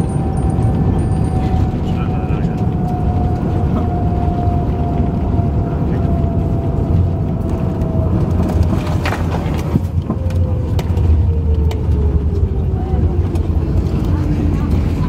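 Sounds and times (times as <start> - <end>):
aircraft cabin roar: 0.0 - 15.0.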